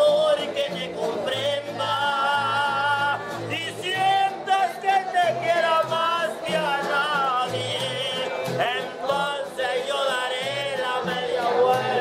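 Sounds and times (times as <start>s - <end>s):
man and woman singing: 0.0s - 12.0s.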